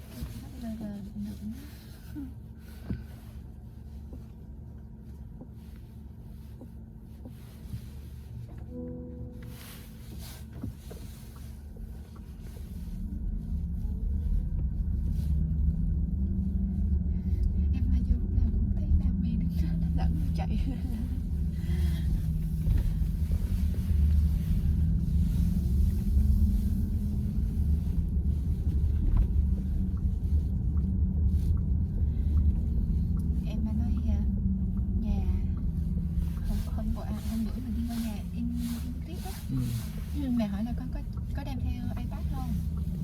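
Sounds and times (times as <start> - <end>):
road and tyre rumble: 0.0 - 43.0.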